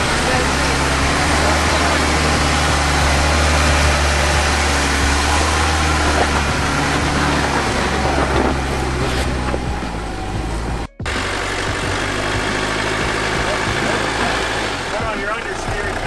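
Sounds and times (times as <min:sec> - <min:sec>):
truck engine running at low speed: 0:00.0 - 0:16.0.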